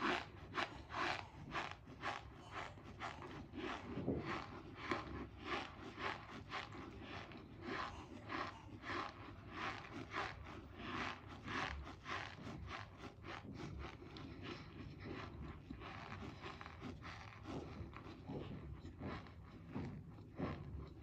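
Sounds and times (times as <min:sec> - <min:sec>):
cornstarch crunching: 0:00.0 - 0:21.0.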